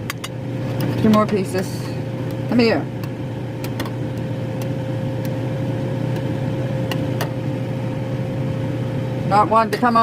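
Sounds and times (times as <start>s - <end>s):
appliance hum with high whine: 0.0s - 10.0s.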